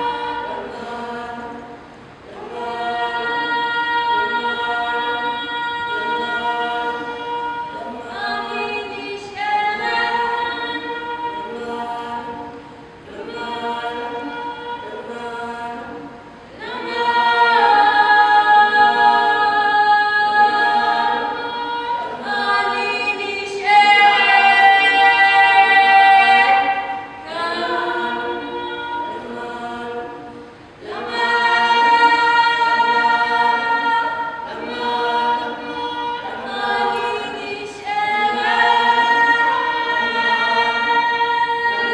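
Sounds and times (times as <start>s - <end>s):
women singing in harmony: 0.0s - 41.9s.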